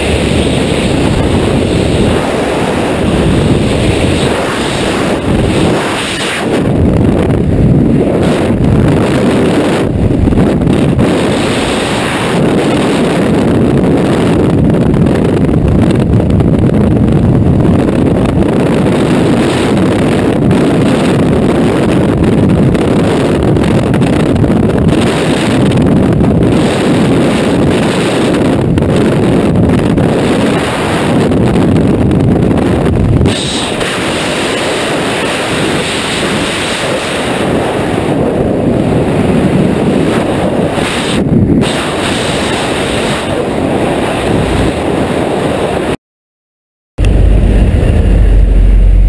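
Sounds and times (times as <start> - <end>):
wind rushing against helmet: 0.0 - 46.0, 47.0 - 49.0.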